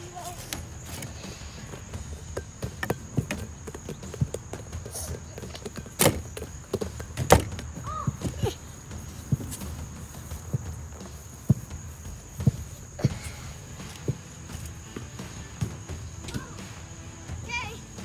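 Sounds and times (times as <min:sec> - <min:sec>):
high insect buzz: 0:00.0 - 0:18.0
ball knocks and thumps: 0:00.4 - 0:17.0.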